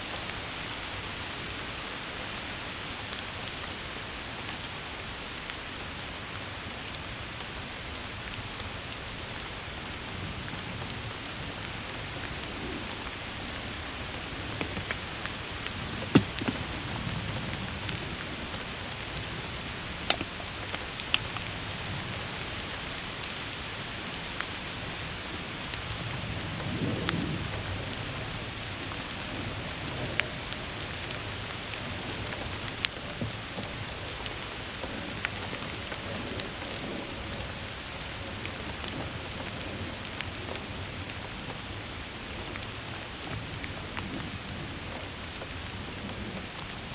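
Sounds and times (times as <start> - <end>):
sharp raindrop ticks: 0.0 - 46.9
steady rain hiss: 0.0 - 46.9.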